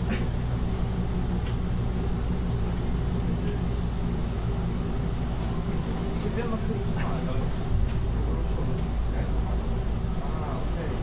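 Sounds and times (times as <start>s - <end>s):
bus engine humming: 0.0s - 11.0s
tyre road noise: 0.0s - 11.0s.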